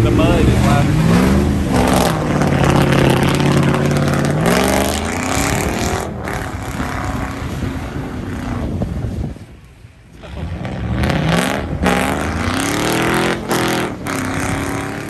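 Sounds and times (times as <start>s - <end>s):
truck engine revving hard: 0.0s - 9.3s, 10.2s - 15.0s.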